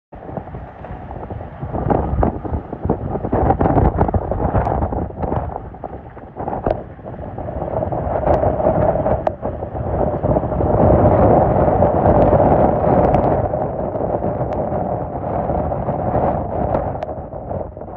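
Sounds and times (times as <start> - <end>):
strong wind gusting on microphone: 0.2 - 17.9.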